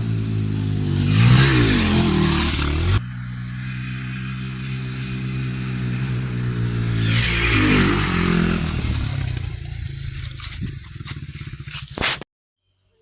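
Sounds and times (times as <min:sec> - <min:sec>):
loud rushing scraping noise: 0:00.0 - 0:03.7, 0:04.3 - 0:12.2
dirt bike engine running: 0:00.0 - 0:12.2.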